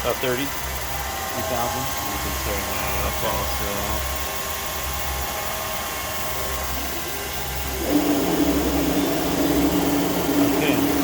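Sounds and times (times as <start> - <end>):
grinding machine hum: 0.0 - 11.0
loud hum with held tone: 0.0 - 11.0.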